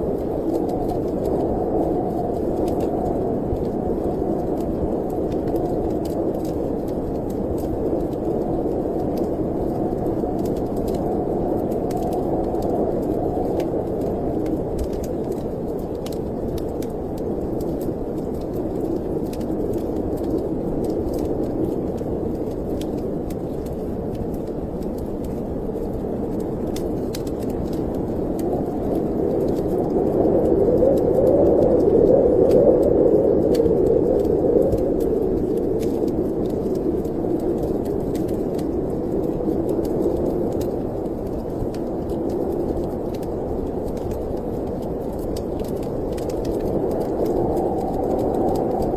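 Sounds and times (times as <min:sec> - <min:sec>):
storm wind rushing: 0:00.0 - 0:48.9
wood fire crackling: 0:00.0 - 0:48.9.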